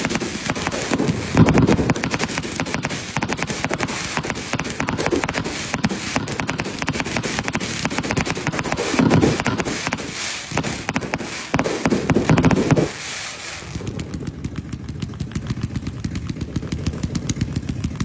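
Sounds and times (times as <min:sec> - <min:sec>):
fireworks crackling and popping: 0:00.0 - 0:18.0.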